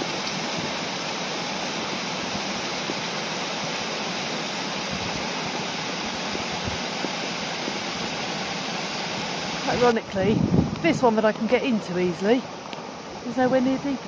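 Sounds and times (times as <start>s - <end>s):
waterfalls pouring into pools: 0.0s - 14.0s.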